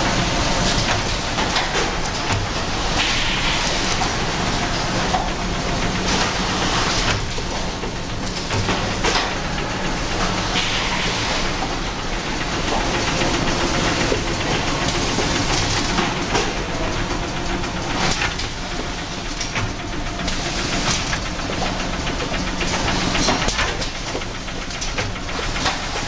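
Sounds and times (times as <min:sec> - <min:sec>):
conveyor clacks and knocks: 0:00.0 - 0:26.0
machine noise with low hum: 0:00.0 - 0:26.0.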